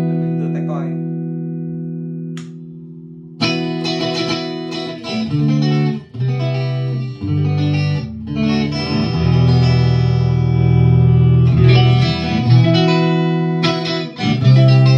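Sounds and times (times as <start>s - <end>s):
electric guitar riff: 0.0s - 14.9s.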